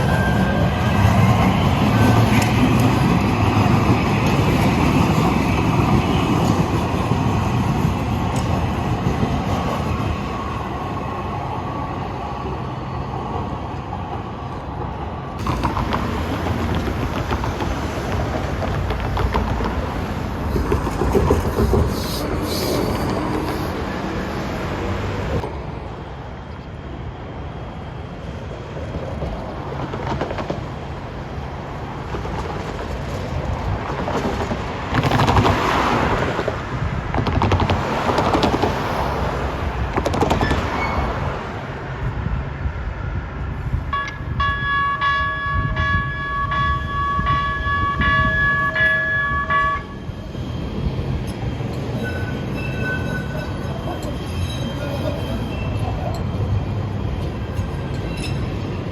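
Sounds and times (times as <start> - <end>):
train wheels rumbling on track: 0.0 - 58.9.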